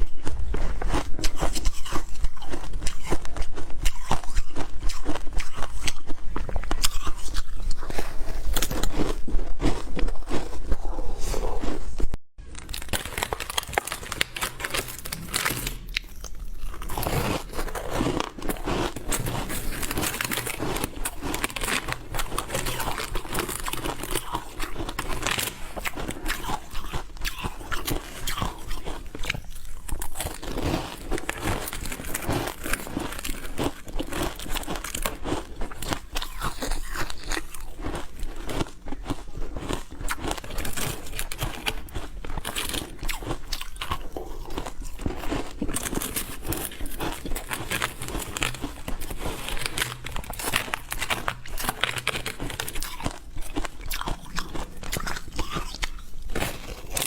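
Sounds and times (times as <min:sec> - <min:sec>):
ice being chewed: 0:00.1 - 0:12.0, 0:12.6 - 0:57.0.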